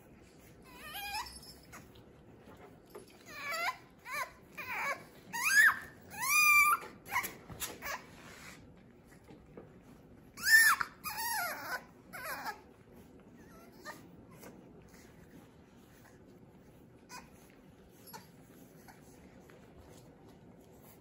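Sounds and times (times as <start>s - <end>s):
puppies yelping and whining: 0.1s - 8.9s, 9.7s - 21.0s.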